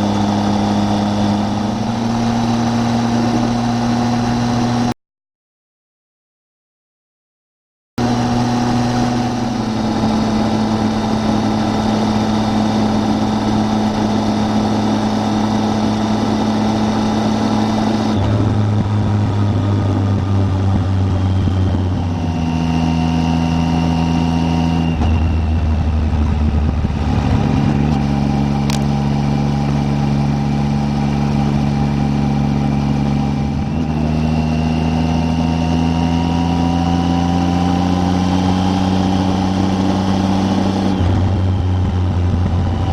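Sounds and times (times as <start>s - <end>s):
motorcycle engine running: 0.0s - 4.9s, 8.0s - 42.9s.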